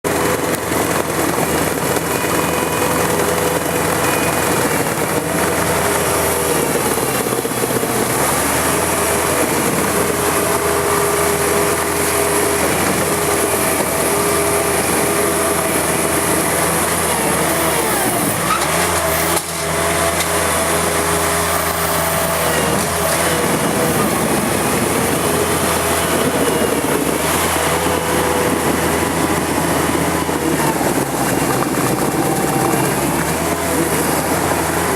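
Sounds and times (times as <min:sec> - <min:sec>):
machine engine running: 0:00.1 - 0:34.9.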